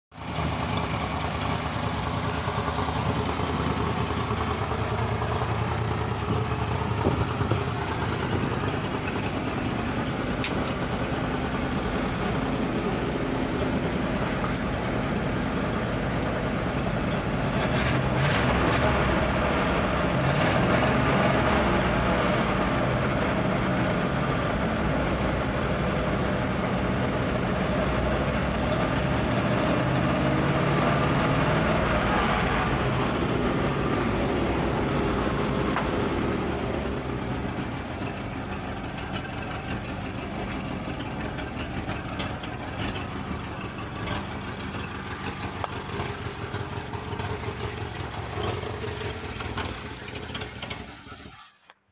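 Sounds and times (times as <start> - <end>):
pickup engine idling: 0.1 - 18.3, 18.9 - 51.7.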